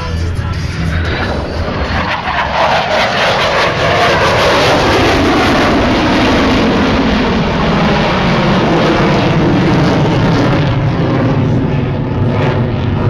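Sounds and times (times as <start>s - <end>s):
jet fighter flying past: 0.7s - 13.0s.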